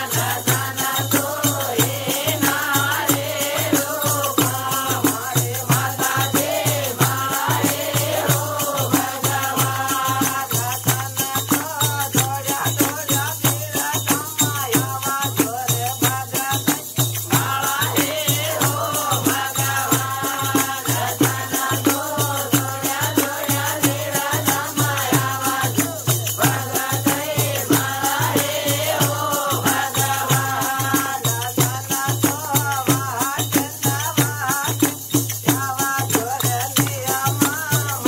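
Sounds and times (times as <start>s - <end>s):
man singing into a microphone: 0.0s - 6.1s, 9.2s - 23.6s, 24.7s - 38.0s
hand drum beat: 0.0s - 38.0s.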